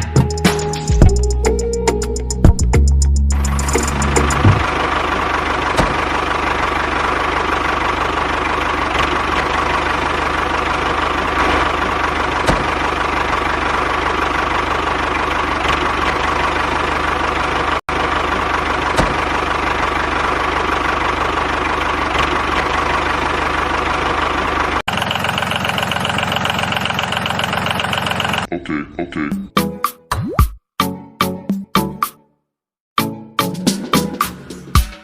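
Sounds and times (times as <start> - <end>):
small tractor engine humming: 0.0 - 28.5.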